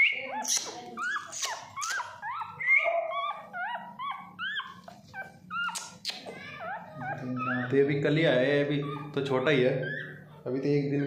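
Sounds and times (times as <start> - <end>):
puppy squeaking and whimpering: 0.0 - 10.5.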